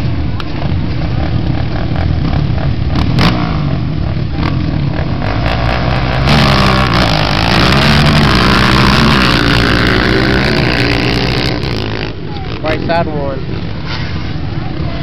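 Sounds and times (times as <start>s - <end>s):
atv engines revving: 0.0s - 15.0s.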